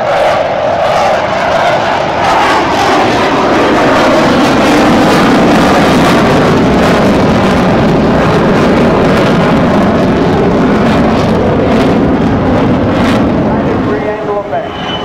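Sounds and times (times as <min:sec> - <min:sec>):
jet roar flying past: 0:00.0 - 0:15.0.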